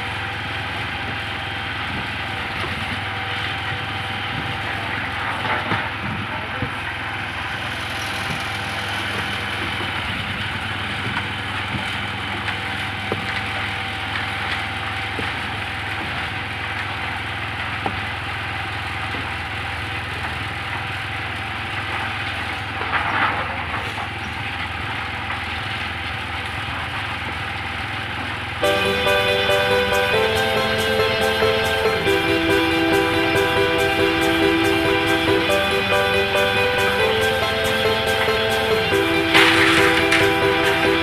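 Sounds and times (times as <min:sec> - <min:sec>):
concrete mixer engine running: 0:00.0 - 0:23.0, 0:24.0 - 0:41.0.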